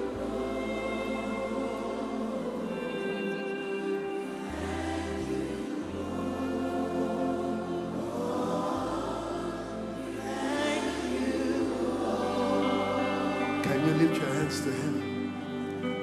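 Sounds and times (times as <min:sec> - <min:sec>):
choir singing sustained notes: 0:00.0 - 0:16.0.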